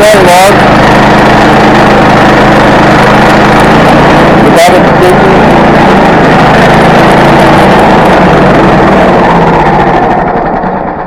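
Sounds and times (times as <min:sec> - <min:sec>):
petrol saw milling a log: 0:00.0 - 0:11.0.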